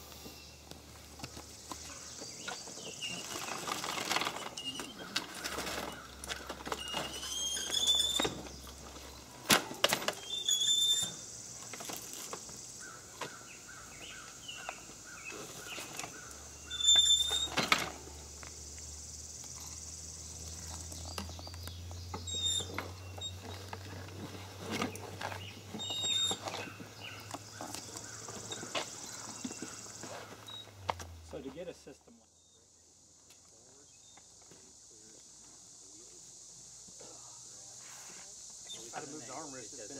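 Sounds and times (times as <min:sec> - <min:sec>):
birds chirping: 0:00.0 - 0:09.5, 0:10.1 - 0:32.8
high insect drone: 0:00.0 - 0:39.9.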